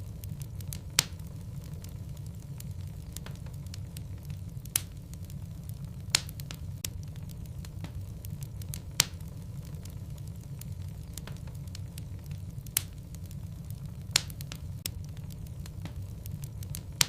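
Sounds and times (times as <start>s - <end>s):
fire crackling: 0.0s - 17.0s
low rumble of fire: 0.0s - 17.0s.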